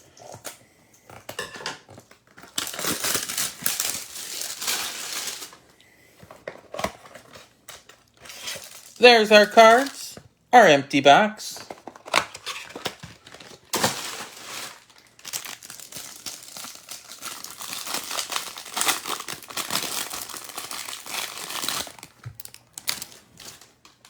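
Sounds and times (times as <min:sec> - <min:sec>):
plastic wrapping crinkling: 0:01.9 - 0:05.7, 0:06.3 - 0:10.1, 0:11.6 - 0:24.0.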